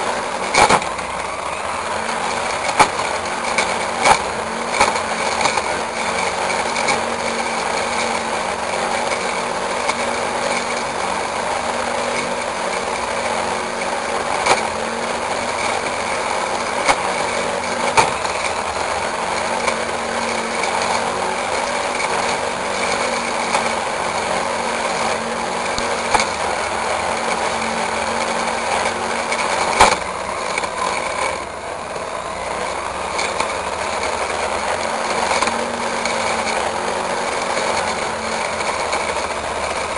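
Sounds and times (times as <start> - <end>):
brush cutter running: 0.0 - 39.9.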